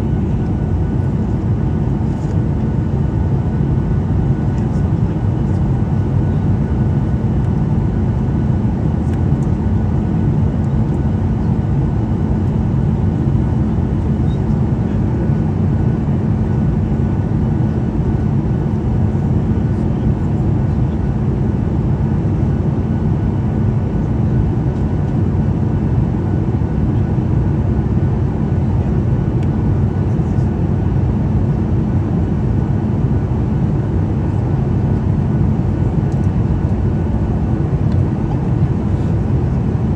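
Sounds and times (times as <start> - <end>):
airliner cabin engine noise: 0.0 - 39.9
steady low hum: 0.0 - 39.9.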